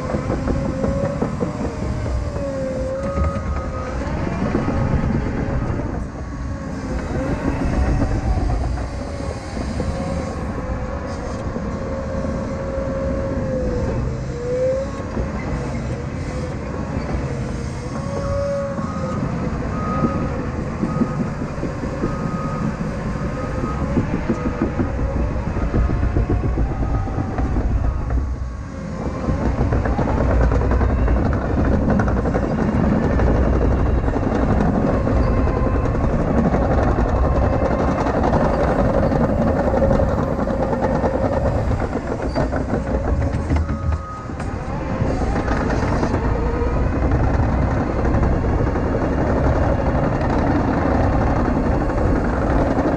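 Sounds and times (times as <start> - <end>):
diesel engine under load: 0.0 - 52.9
steel tracks clattering: 0.0 - 52.9.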